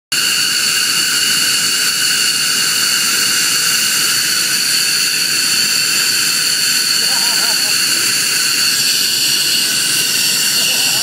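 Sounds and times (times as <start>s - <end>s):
jet engines whining: 0.2s - 11.0s.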